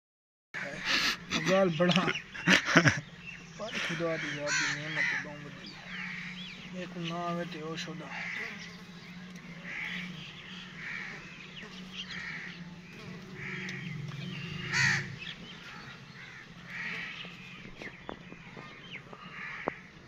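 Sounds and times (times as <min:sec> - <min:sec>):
bird calling: 0:00.6 - 0:20.0
steady low hum: 0:00.6 - 0:20.0.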